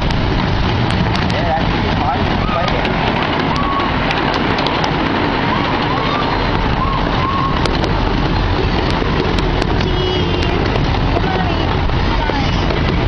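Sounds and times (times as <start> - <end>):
miniature train rumbling: 0.0 - 13.0.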